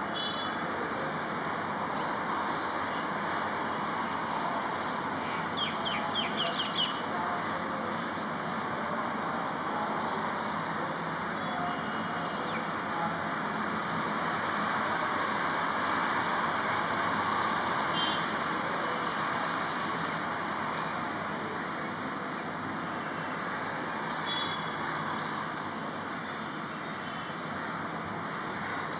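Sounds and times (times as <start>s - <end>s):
distant road traffic: 0.0s - 28.9s.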